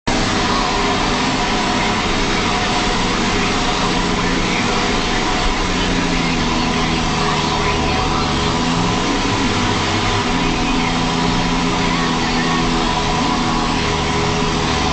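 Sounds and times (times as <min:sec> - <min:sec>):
tractor diesel engine under load: 0:00.0 - 0:14.9.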